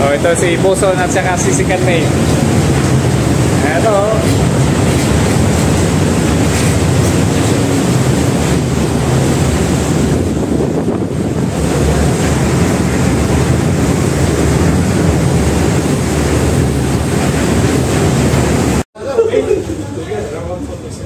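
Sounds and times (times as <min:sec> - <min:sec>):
wind buffeting microphone: 0:00.0 - 0:18.8
ship's wake churning: 0:00.0 - 0:21.0.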